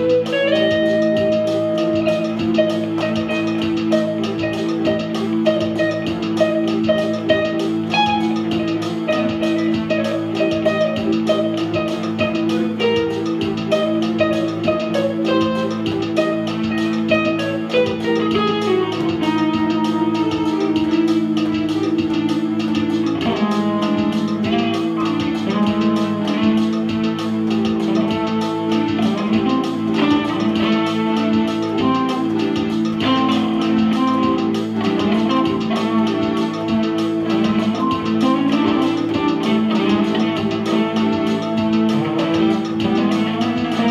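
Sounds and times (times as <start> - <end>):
electric guitar picked notes: 0.0 - 43.9
keyboard sustained low notes: 0.0 - 43.9.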